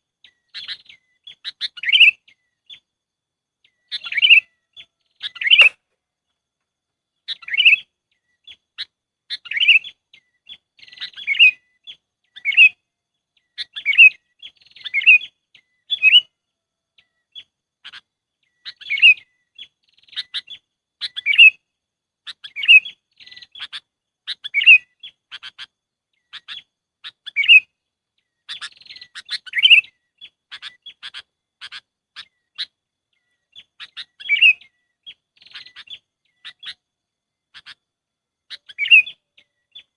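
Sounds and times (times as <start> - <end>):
bulbul calling: 0.2 - 2.8, 3.6 - 5.8, 7.3 - 12.8, 13.4 - 16.3, 17.0 - 21.6, 22.2 - 36.8, 38.4 - 39.9.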